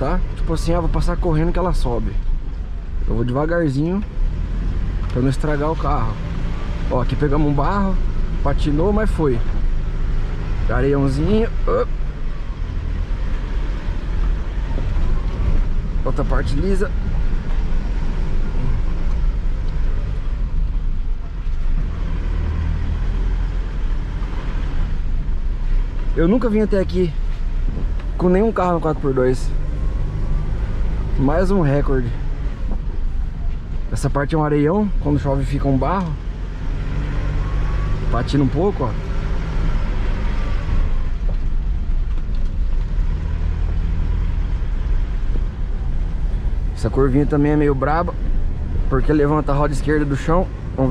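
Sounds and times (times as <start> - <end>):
pickup engine and tyre rumble: 0.0 - 50.9.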